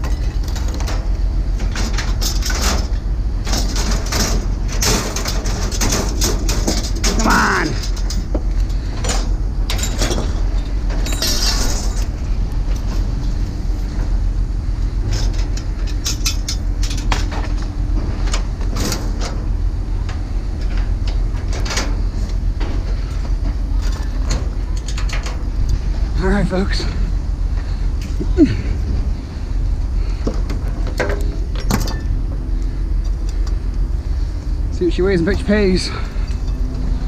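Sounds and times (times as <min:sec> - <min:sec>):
load rattling and clanking: 0:00.0 - 0:14.2, 0:15.0 - 0:29.4, 0:30.0 - 0:32.4
vehicle engine rumble: 0:00.0 - 0:37.0.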